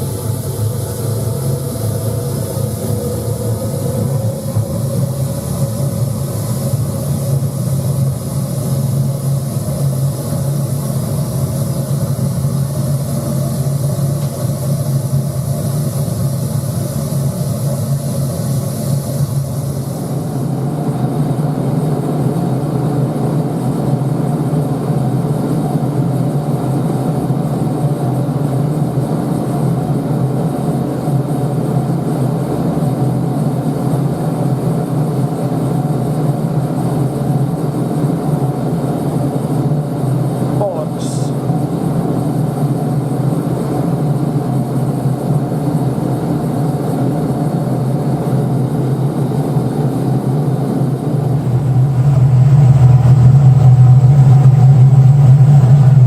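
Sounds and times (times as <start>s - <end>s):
furnace burner roaring: 0.0s - 56.0s.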